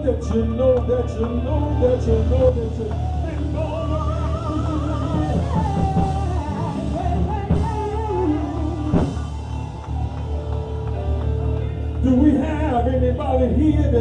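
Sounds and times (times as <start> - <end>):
person singing gospel: 0.0 - 9.5, 11.9 - 14.0
backing band with bass: 0.0 - 14.0.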